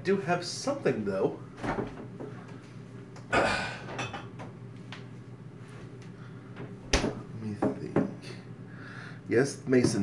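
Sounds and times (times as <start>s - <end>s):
air fryer fan hum: 0.0s - 10.0s.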